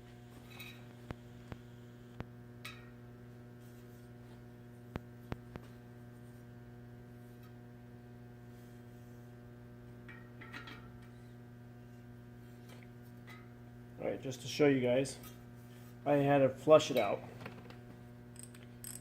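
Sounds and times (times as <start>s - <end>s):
low electrical mains hum: 0.0s - 19.0s.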